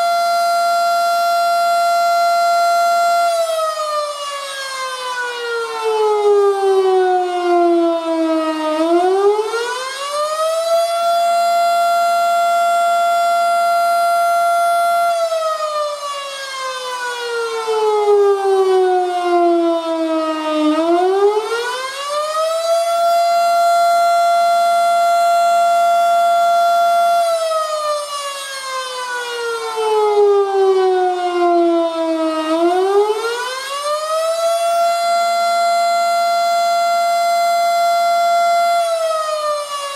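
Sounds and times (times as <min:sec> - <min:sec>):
rising and falling siren wail: 0:00.0 - 0:39.9.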